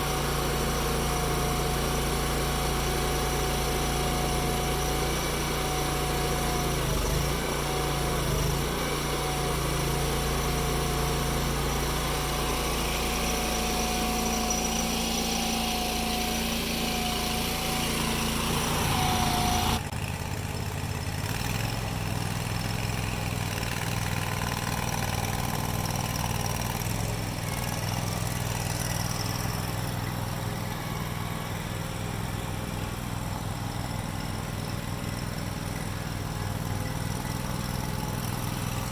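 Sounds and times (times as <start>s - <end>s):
low pulsing engine: 0.0s - 38.9s
small engine running: 0.0s - 38.9s.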